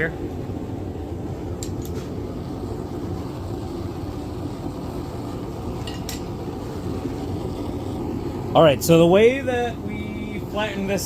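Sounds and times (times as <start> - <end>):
forge roaring: 0.0 - 11.0.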